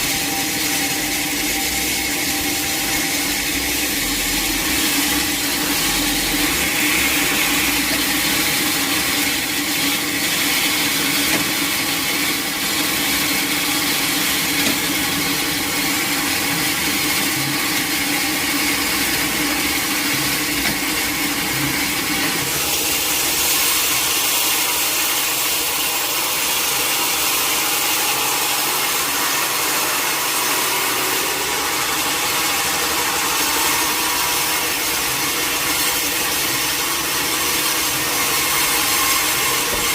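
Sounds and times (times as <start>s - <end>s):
sawmill machinery hiss: 0.0s - 39.9s
sawmill machinery hum: 0.0s - 39.9s.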